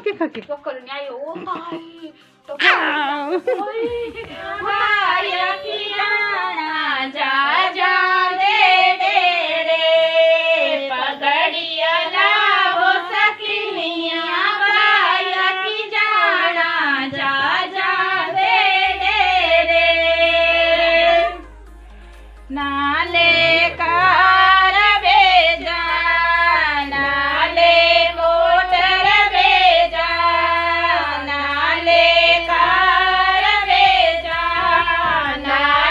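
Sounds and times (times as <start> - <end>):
women singing folk song: 1.3 - 21.5, 22.5 - 35.9.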